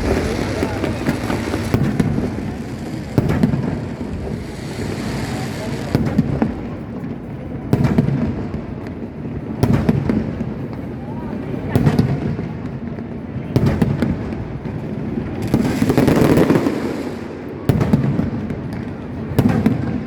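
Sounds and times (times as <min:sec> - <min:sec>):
fireworks bangs with rumbling tail: 0:00.0 - 0:20.0
fireworks crackling: 0:00.0 - 0:20.0.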